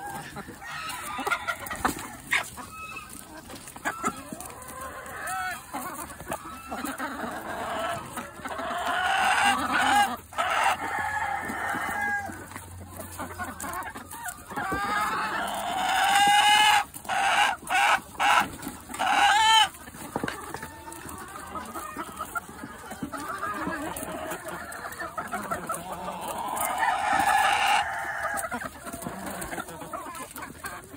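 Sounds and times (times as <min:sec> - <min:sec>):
chickens clucking: 0:00.0 - 0:30.9.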